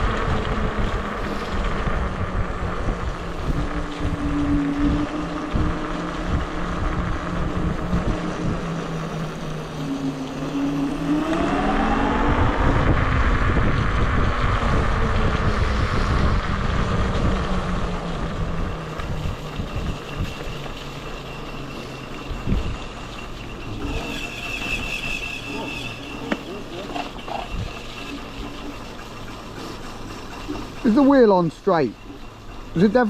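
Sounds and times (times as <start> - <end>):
wind rumble on microphone: 0.0 - 31.0
electric scooter humming: 0.0 - 33.0.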